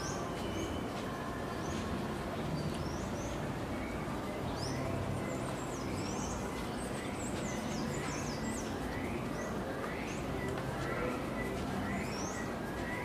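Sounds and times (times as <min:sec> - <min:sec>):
small birds chirping: 0:00.0 - 0:13.0
steady low background noise: 0:00.0 - 0:13.0.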